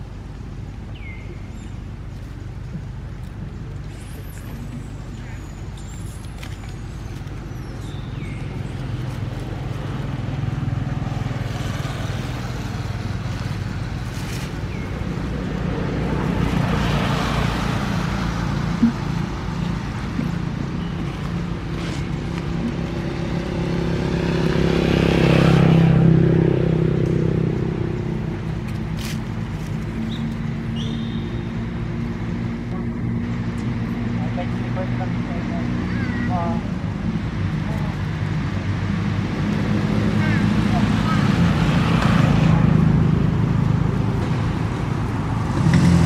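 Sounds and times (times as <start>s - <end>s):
passing vehicle engine hum: 0.0s - 46.0s.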